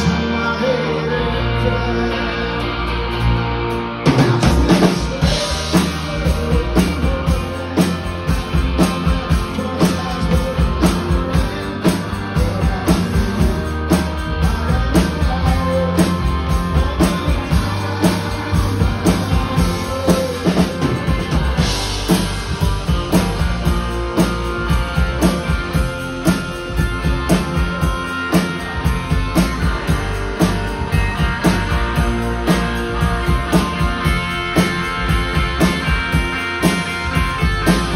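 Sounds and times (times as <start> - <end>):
electric guitars: 0.0 - 37.9
live rock band playing: 0.0 - 37.9
drum kit beat: 4.0 - 37.9.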